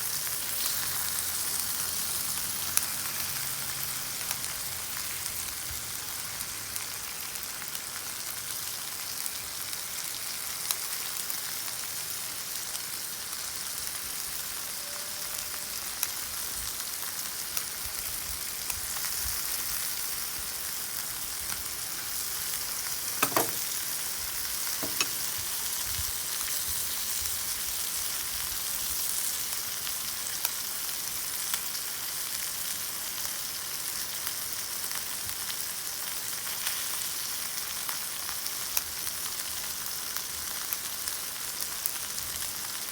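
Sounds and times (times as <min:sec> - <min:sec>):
beef sizzling in a pan: 0:00.0 - 0:42.9.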